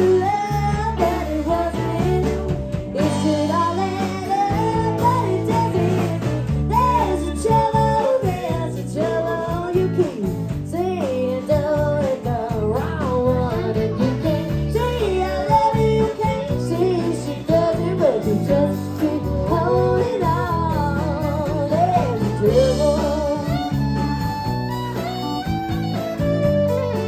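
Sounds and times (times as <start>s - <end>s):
woman singing: 0.0s - 24.2s
bass: 0.0s - 27.0s
fiddle: 0.0s - 27.0s.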